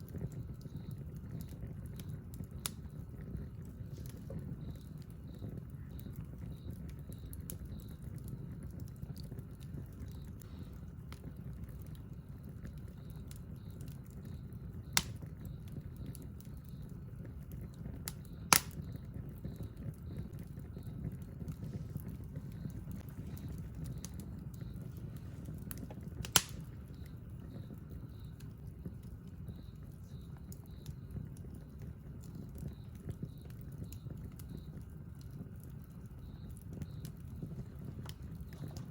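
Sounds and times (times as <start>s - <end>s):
campfire rumbling and crackling: 0.0s - 38.9s
sharp pops from burning wood: 0.0s - 38.9s.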